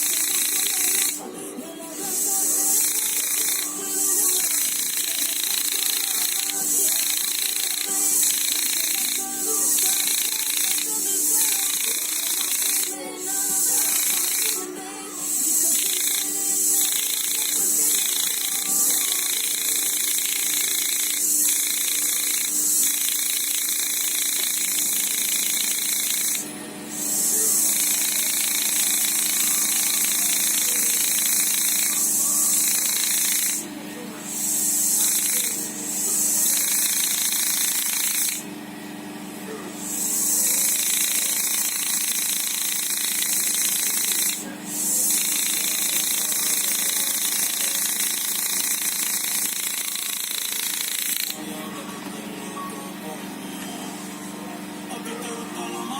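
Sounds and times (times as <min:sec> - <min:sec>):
electric power tool running: 0:00.0 - 0:51.5.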